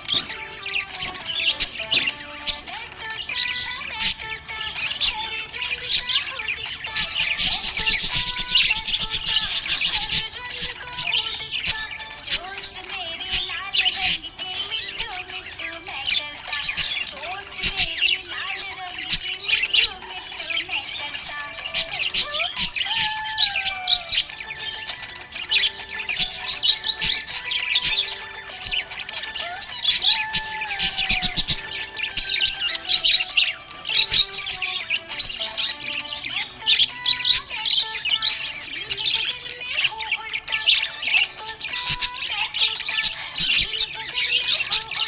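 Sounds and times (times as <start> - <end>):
budgies chirping and squawking: 0.0 - 45.0.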